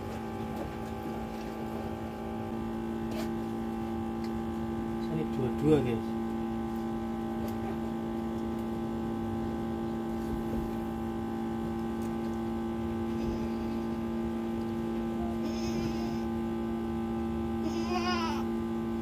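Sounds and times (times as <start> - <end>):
steady hum of held tones: 0.0 - 19.0.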